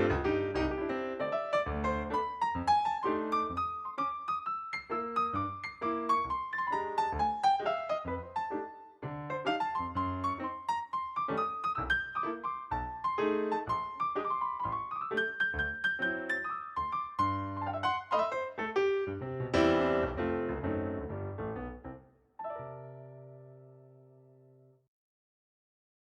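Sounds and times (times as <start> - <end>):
piano music: 0.0 - 24.6.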